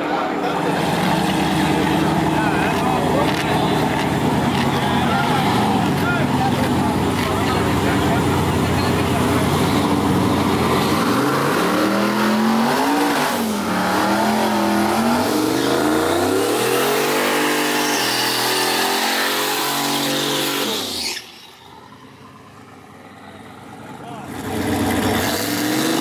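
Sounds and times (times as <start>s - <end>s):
engine revving hard: 0.0s - 21.3s, 23.4s - 26.0s.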